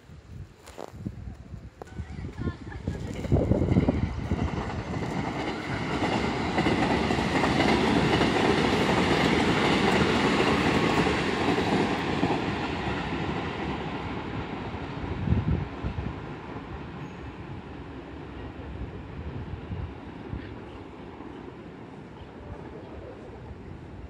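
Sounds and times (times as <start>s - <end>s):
electric train running past: 1.9s - 24.0s.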